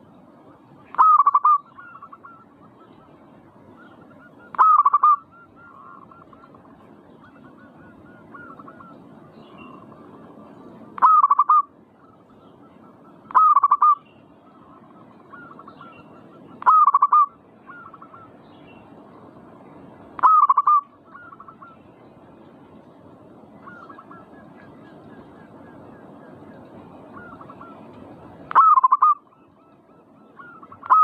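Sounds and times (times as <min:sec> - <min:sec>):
dove cooing: 0:00.9 - 0:03.1, 0:03.8 - 0:18.4, 0:20.2 - 0:21.8, 0:23.6 - 0:27.9, 0:28.5 - 0:31.0.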